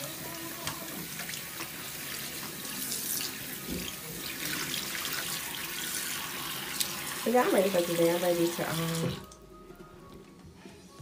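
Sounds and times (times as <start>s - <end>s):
tap water running into sink: 0.0s - 9.4s.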